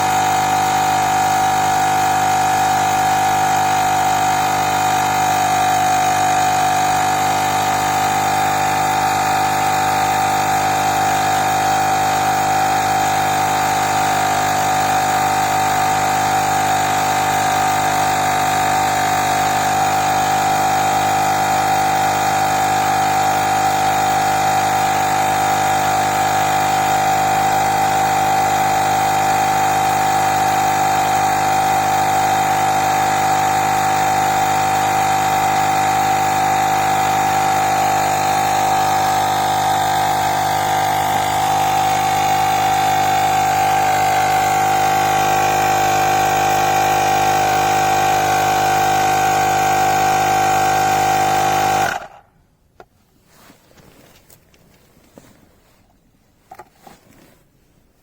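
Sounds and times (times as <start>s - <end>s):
tyre inflator compressor buzzing: 0.0s - 52.3s.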